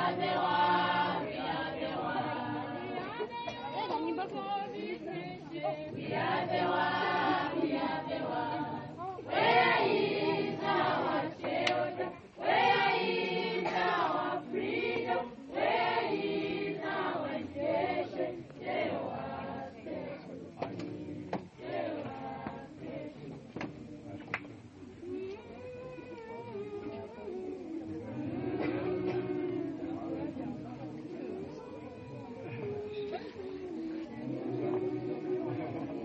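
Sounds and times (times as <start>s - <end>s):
choir singing unaccompanied: 0.0s - 36.0s.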